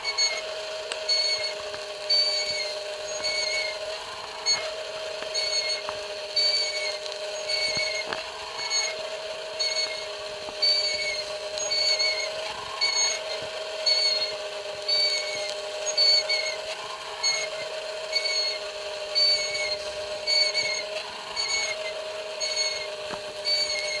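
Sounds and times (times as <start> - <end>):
short high squeak: 0.0 - 0.5, 1.1 - 3.8, 4.4 - 24.0
rotisserie motor hum: 0.0 - 24.0.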